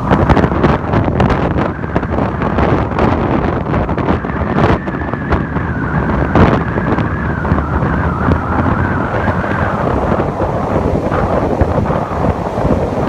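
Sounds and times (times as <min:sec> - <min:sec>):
rough sea surf: 0:00.0 - 0:13.0
strong wind gusting: 0:00.0 - 0:13.0.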